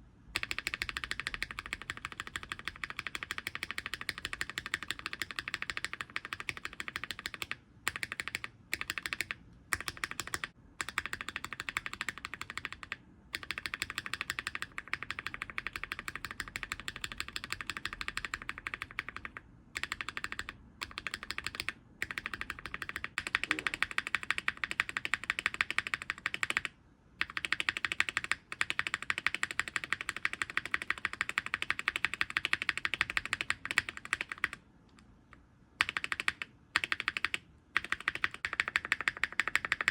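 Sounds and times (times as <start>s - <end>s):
keyboard spacebar pressed rapidly: 0.4s - 34.6s, 35.8s - 39.9s.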